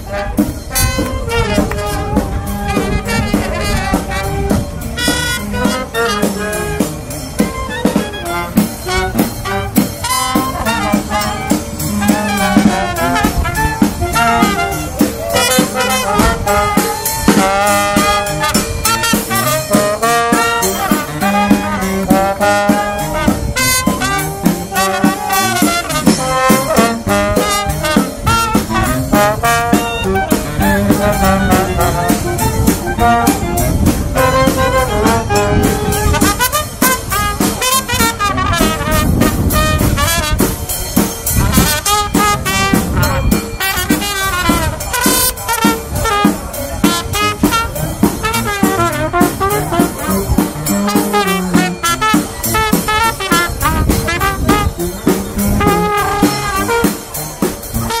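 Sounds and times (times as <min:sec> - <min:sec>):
brass jazz music: 0:00.0 - 0:58.0.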